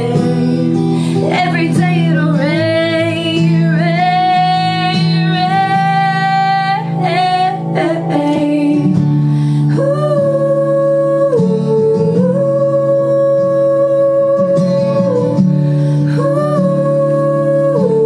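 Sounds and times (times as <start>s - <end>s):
guitar accompaniment: 0.0s - 18.0s
pop ballad singing: 0.0s - 18.0s.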